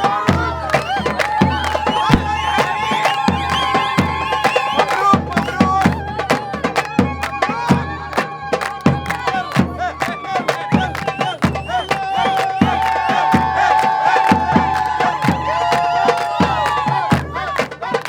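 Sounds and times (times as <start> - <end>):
drums beating fast rhythm: 0.0 - 18.0.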